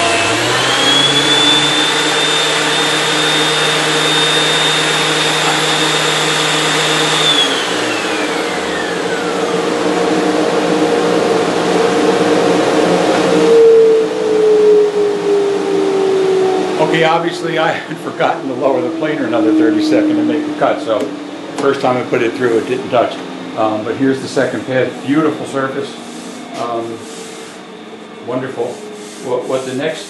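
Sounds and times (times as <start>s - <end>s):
dust collector hum: 0.0s - 30.0s
planer whine: 0.0s - 30.0s.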